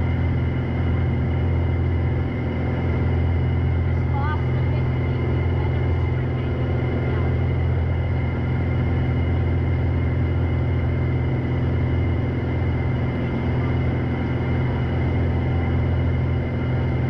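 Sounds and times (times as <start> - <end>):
aircraft engine and propeller drone: 0.0 - 17.0.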